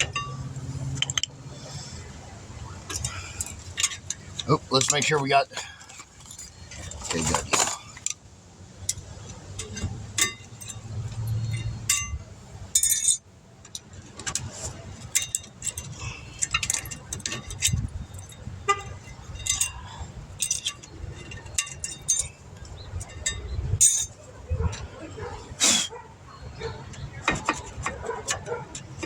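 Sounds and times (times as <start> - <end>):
metal tools clinking: 0.0 - 1.3, 2.7 - 8.2, 8.8 - 29.0.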